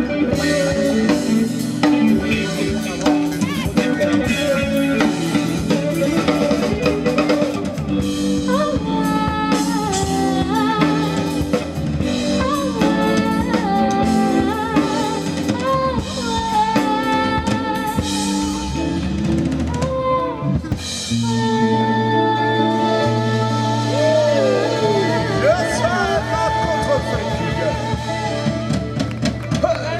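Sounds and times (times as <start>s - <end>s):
bass line: 0.0s - 29.9s
chords: 0.0s - 29.9s
drum kit: 0.0s - 29.9s
sliding lead melody: 0.0s - 29.9s.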